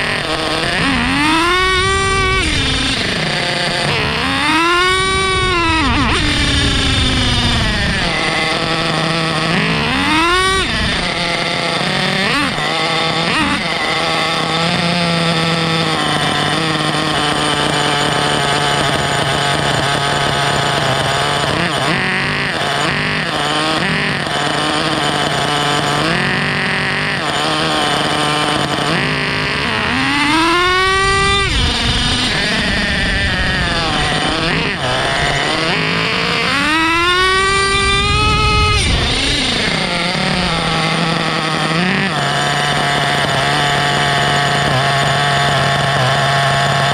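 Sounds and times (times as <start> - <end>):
small nitro engine revving: 0.0 - 46.9.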